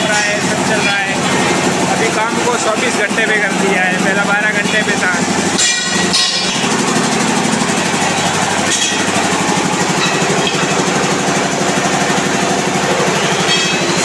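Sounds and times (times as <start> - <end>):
workshop machinery low pulsing: 0.0 - 14.0.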